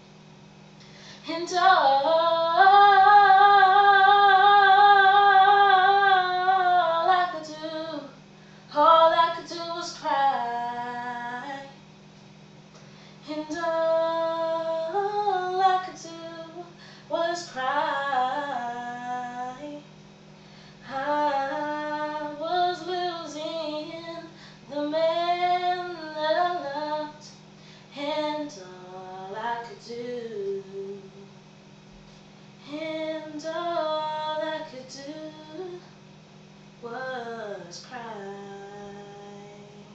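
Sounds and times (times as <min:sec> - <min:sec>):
woman singing unaccompanied: 0:01.2 - 0:11.8, 0:13.2 - 0:19.9, 0:20.8 - 0:31.4, 0:32.6 - 0:36.0, 0:36.8 - 0:39.9.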